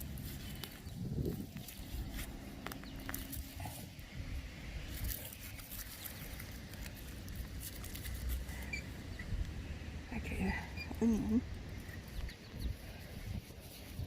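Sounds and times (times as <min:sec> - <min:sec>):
hands rustling in soil: 0:00.0 - 0:09.7, 0:11.6 - 0:14.0.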